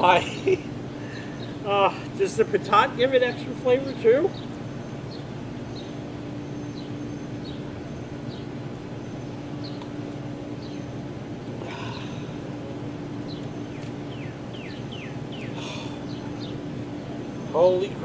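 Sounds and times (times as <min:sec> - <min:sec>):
birds chirping: 0:00.0 - 0:18.0
low hum: 0:00.0 - 0:18.0.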